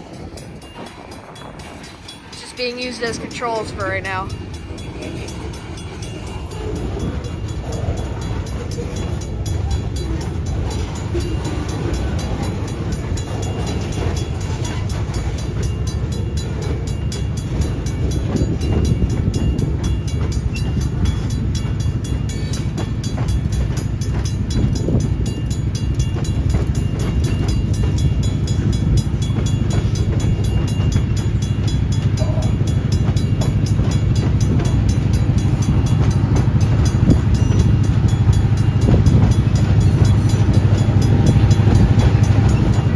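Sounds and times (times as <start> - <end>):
diesel locomotive engine rumble: 0.0 - 42.9.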